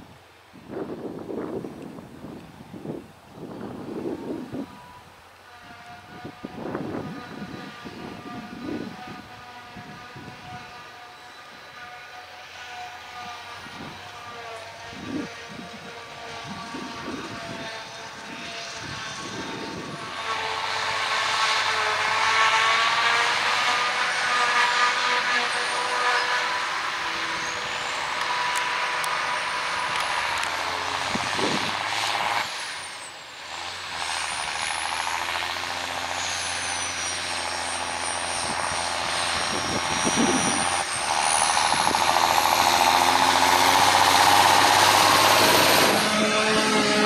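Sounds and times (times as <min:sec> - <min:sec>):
forage harvester engine drone: 0:00.0 - 0:47.0
high machine whine: 0:00.0 - 0:47.0
tractor engine: 0:00.0 - 0:47.0.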